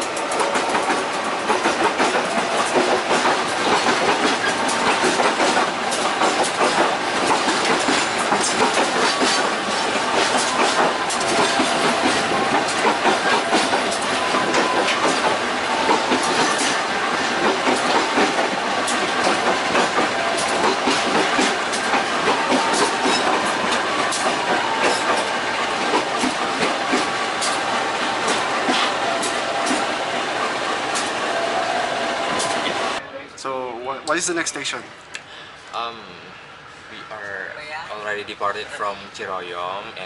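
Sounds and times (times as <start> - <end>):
clacks over rail joints: 0.0 - 33.0
train wheels running on rails: 0.0 - 40.0.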